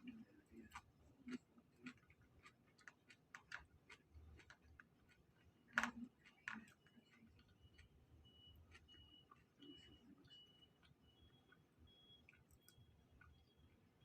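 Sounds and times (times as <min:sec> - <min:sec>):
chewing and food handling clicks: 0:00.0 - 0:13.7.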